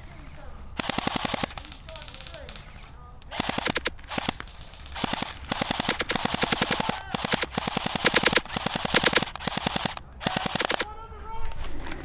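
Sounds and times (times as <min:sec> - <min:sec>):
airsoft guns firing bursts: 0:00.8 - 0:10.9.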